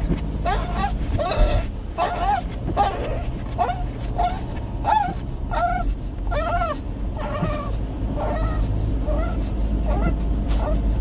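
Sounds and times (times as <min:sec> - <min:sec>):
car rumble: 0:00.0 - 0:11.0
dog whimpering: 0:00.4 - 0:11.0.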